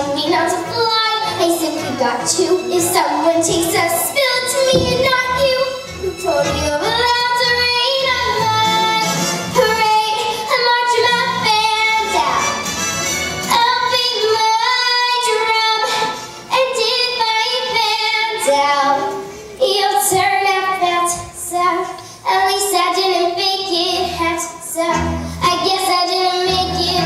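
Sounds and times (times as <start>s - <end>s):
girl singing: 0.0s - 12.6s, 13.5s - 27.0s
musical accompaniment: 0.0s - 27.0s.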